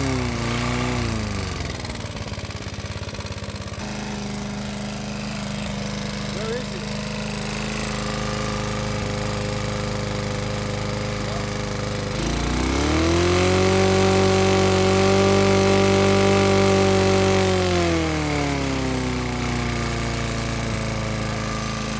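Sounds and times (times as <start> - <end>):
small engine running with rod knock: 0.0 - 21.9.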